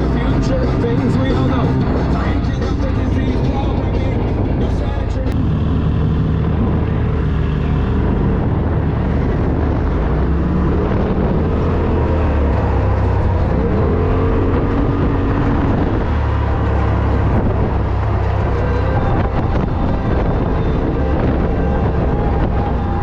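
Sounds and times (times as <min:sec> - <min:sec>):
engine revving off-road: 0:00.0 - 0:23.0
wind noise: 0:00.0 - 0:23.0.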